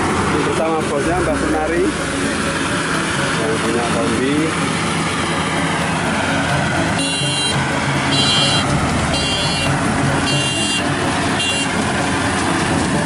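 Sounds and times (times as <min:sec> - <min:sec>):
combine harvester engine running: 0:00.0 - 0:13.0
high beeping: 0:01.0 - 0:11.8.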